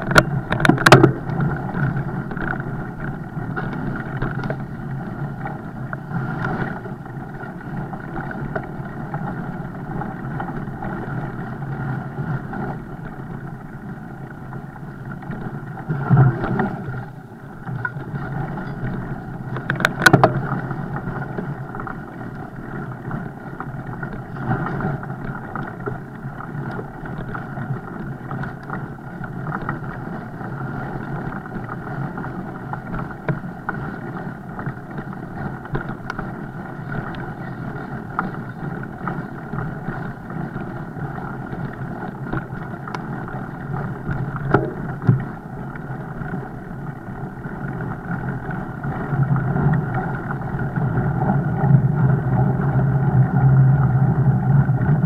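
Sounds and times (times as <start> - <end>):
bike riding rushing noise: 0.0 - 55.0.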